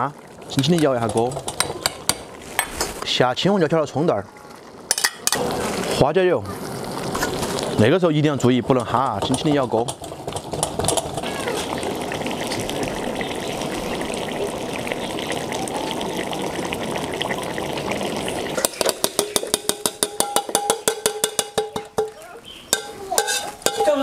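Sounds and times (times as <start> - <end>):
sauce simmering in a wok: 0.0 - 21.7.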